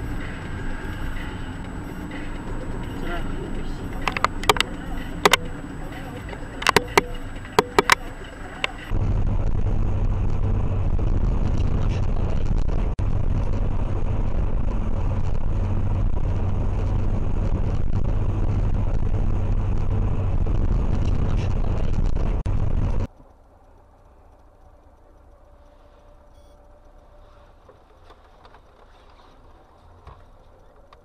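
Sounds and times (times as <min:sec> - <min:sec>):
strong low hum: 0:00.0 - 0:27.1
car road and engine noise: 0:00.0 - 0:31.0.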